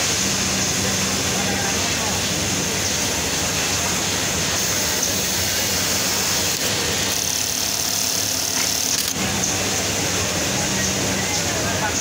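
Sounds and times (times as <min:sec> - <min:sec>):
industrial sewing machines whirring: 0:00.0 - 0:12.0.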